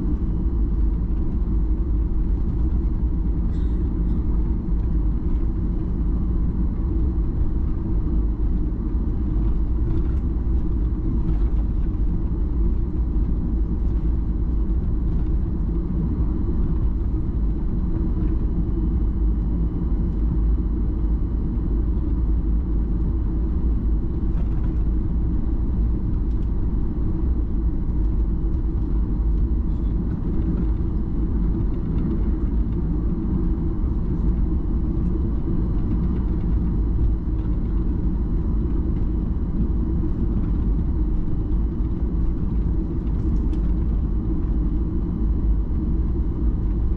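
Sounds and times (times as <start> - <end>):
aircraft cabin rumble: 0.0 - 46.9.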